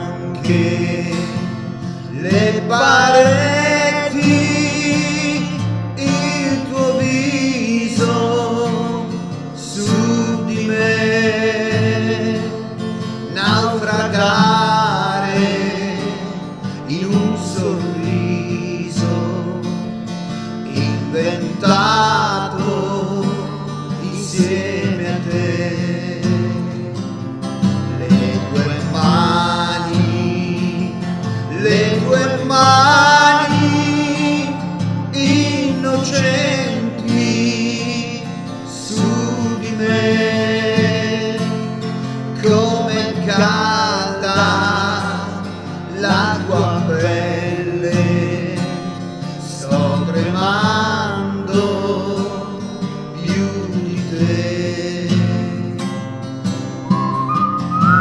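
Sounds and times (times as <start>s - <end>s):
man singing: 0.0s - 19.8s, 20.6s - 55.7s
acoustic guitar: 0.0s - 58.0s.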